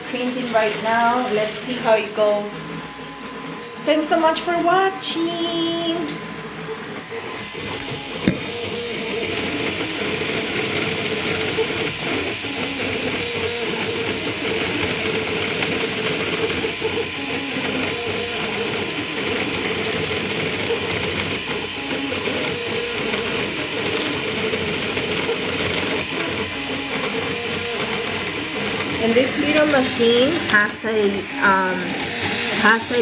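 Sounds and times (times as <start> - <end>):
printer motors and fan humming: 0.0 - 33.0.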